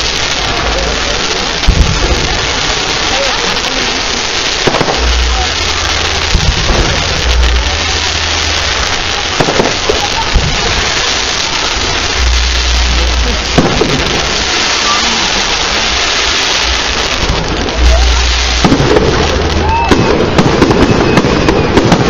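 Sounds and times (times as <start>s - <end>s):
dense steady hiss: 0.0s - 21.4s
fireworks bursting with bangs: 0.0s - 22.0s.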